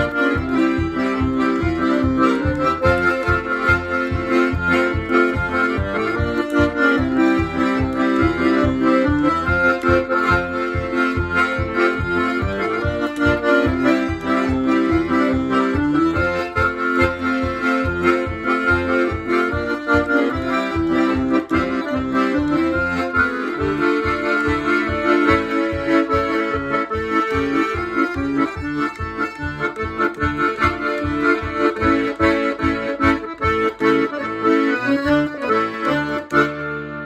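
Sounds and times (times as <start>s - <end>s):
accordion playing lively melody: 0.0s - 37.0s.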